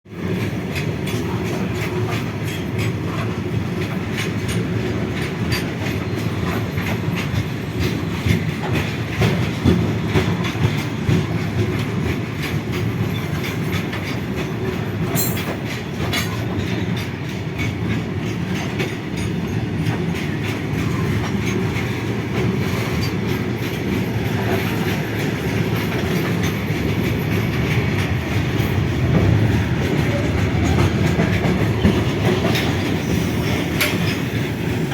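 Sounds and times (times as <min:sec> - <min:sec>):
freight train rumbling: 0:00.1 - 0:34.9
wheels clacking over rail joints: 0:00.1 - 0:34.9.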